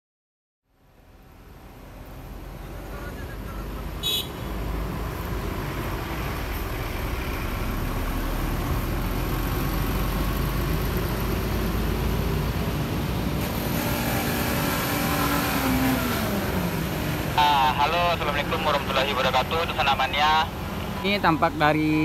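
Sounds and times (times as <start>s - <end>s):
bus engine revving: 1.4s - 22.0s.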